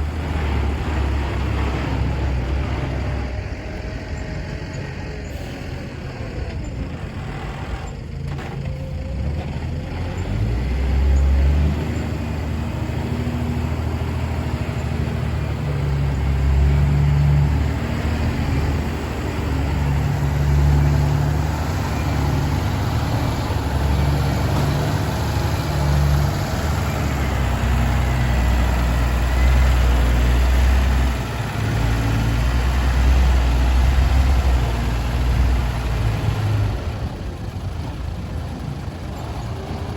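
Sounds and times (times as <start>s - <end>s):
truck diesel engines rumbling: 0.0s - 39.9s.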